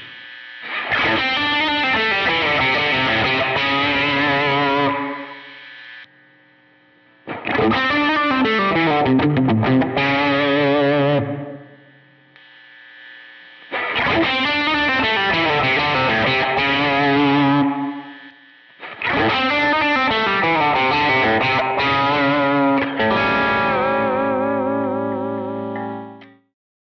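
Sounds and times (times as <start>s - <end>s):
overdriven electric guitar riffing: 0.0s - 6.0s, 7.2s - 12.3s, 13.6s - 26.4s.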